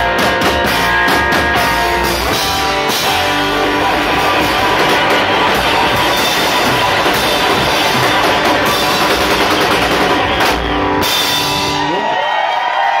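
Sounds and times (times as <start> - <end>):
distorted electric guitars: 0.0 - 12.2
pounding drum kit: 0.0 - 12.6.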